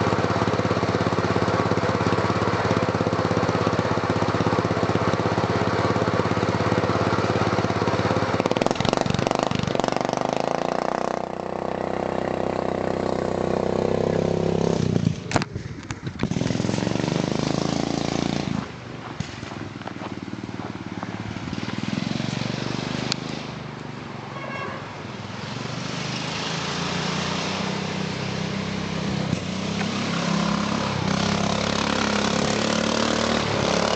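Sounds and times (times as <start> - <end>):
lawn mower engine revving: 0.0 - 19.3, 20.2 - 23.7, 25.2 - 33.9.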